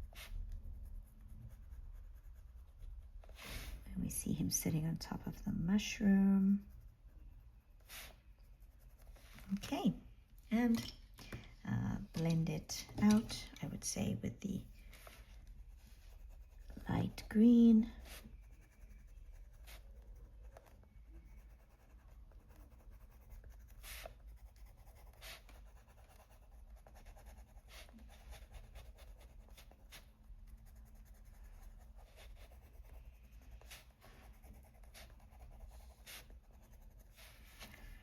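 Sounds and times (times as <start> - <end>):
pencil scratching on paper: 0.0 - 9.9, 14.8 - 38.0.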